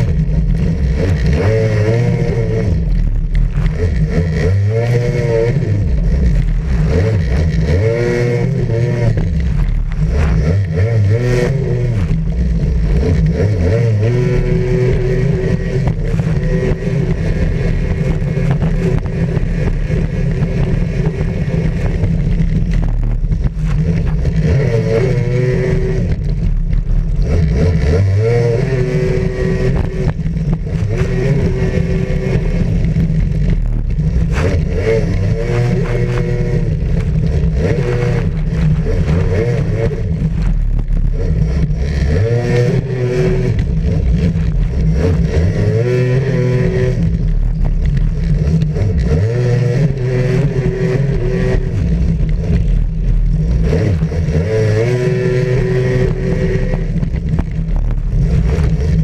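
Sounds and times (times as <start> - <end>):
jet ski engine revving: 0.0 - 59.0.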